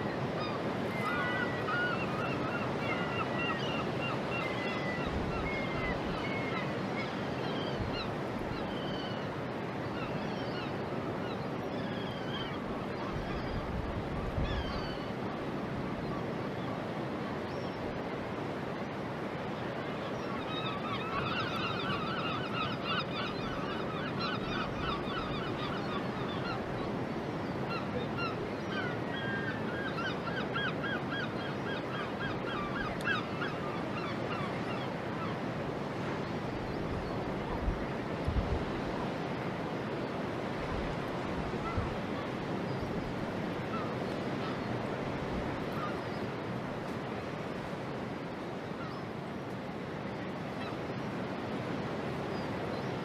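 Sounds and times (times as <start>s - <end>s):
water: 0.0s - 53.0s
wind: 0.0s - 53.0s.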